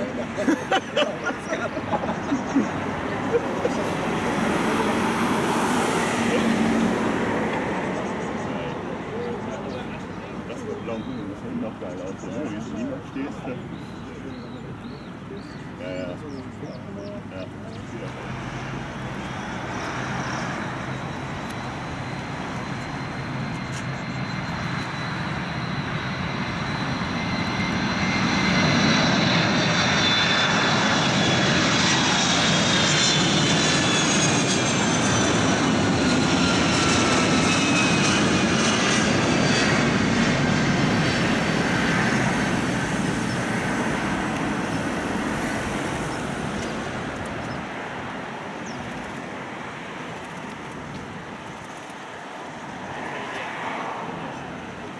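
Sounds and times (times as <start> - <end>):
jet airliner flying past: 0.0 - 54.9.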